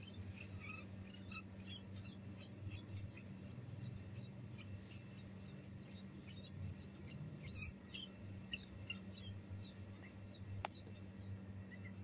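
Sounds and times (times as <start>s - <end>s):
nestlings begging chirps: 0.0s - 12.0s
steady low hum: 0.0s - 12.0s.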